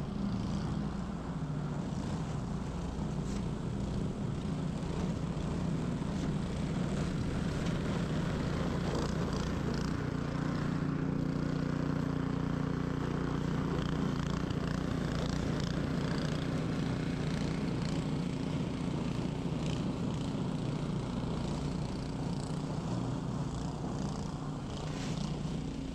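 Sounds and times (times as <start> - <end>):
snow blower engine running: 0.0 - 25.9.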